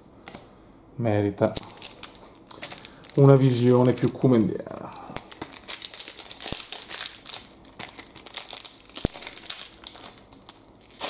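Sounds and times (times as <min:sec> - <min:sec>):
cards and packaging crinkling: 0:01.4 - 0:11.0.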